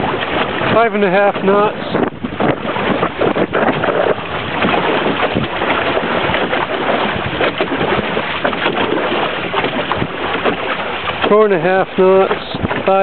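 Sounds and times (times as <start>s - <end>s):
water rushing along canoe hull: 0.0s - 13.0s
wind buffeting microphone: 0.0s - 13.0s.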